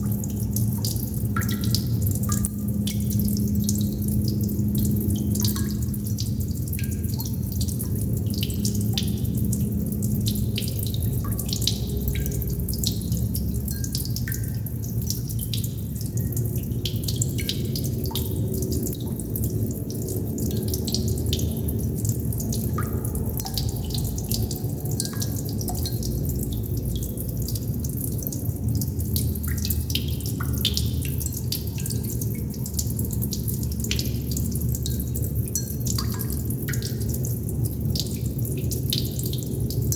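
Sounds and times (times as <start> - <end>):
steady low hum: 0.0 - 39.9
water droplets dripping: 0.0 - 39.9.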